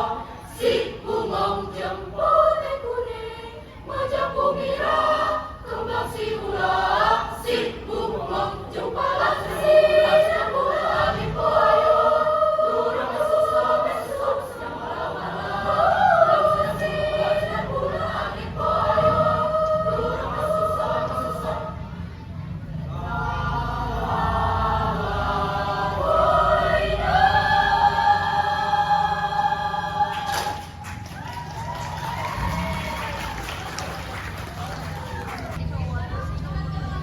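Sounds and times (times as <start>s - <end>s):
choir singing: 0.0s - 22.2s, 22.8s - 30.9s.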